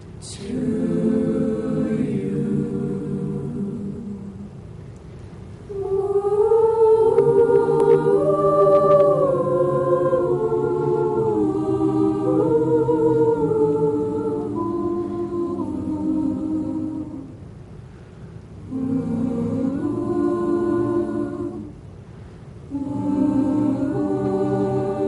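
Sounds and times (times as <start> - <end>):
choir singing sustained chords: 0.0 - 4.9, 5.6 - 25.0.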